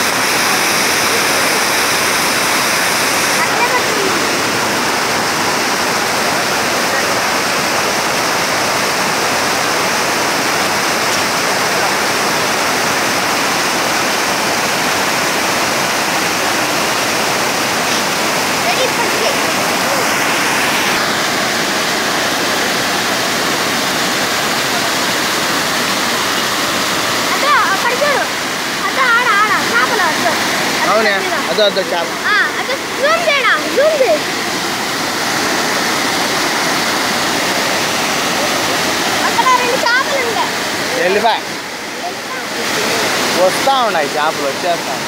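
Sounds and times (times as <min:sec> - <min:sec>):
water rushing over a weir: 0:00.0 - 0:45.0.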